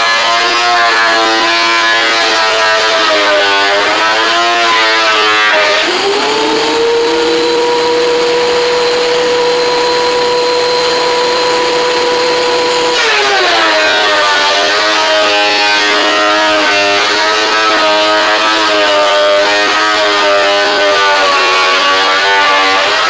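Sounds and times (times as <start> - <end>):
thickness planer whining: 0.0 - 23.0.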